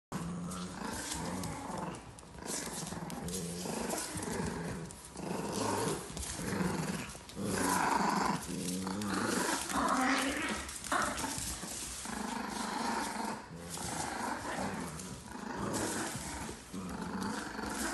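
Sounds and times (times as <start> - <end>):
puppies growling: 0.1 - 17.9.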